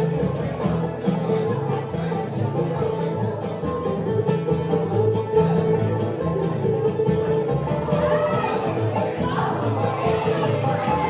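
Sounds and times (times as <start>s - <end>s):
banjo picking: 0.0s - 11.0s
bass line: 0.0s - 11.0s
guitar picking: 0.0s - 11.0s.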